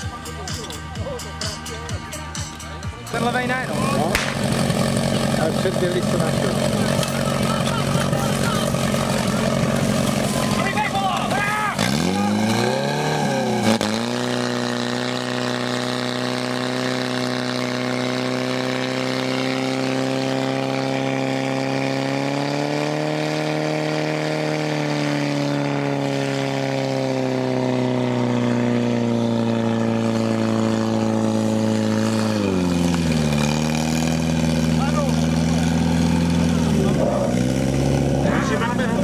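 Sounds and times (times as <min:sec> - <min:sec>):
pump engine running at high revs: 0:00.0 - 0:39.0.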